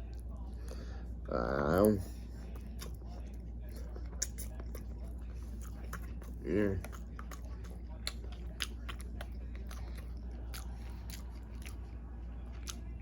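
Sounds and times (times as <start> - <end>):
person chewing food: 1.7 - 13.0.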